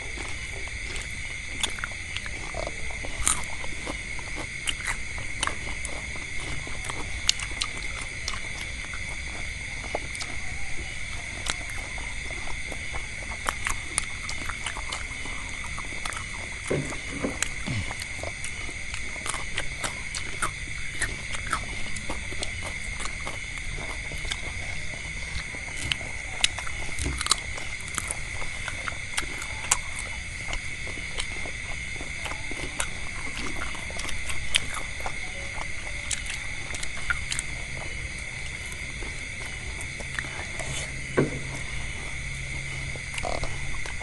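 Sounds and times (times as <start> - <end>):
people chewing crunchy food: 0.0 - 44.0.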